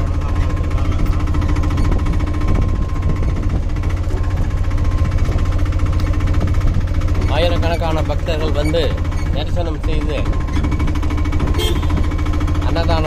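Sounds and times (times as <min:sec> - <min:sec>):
vehicle engine while driving: 0:00.0 - 0:13.0.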